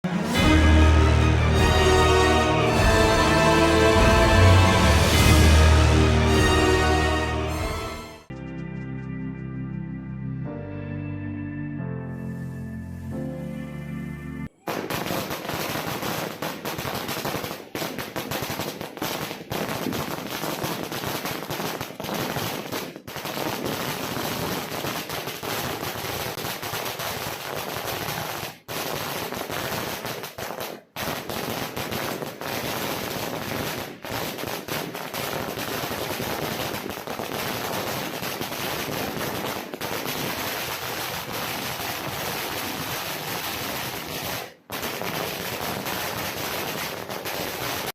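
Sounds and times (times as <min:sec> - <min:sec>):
firecrackers crackling: 0:00.0 - 0:08.3, 0:14.6 - 0:47.9.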